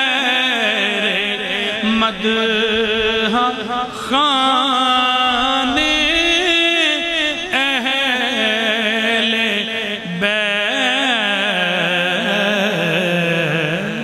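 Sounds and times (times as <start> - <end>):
man chanting into microphone: 0.0 - 14.0.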